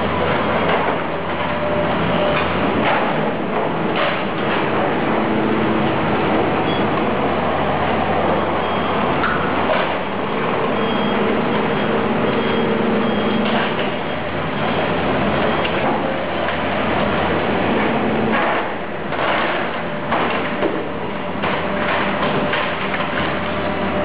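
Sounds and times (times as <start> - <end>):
heavy machinery running: 0.0 - 24.0.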